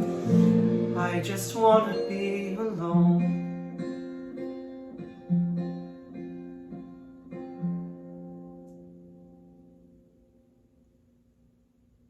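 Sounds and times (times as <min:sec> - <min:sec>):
acoustic guitar playing: 0:00.0 - 0:10.7.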